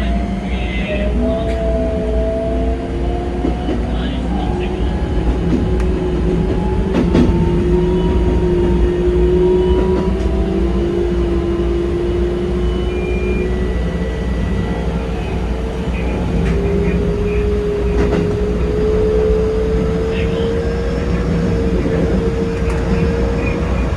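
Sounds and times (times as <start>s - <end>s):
train running gear rumble: 0.0s - 23.9s.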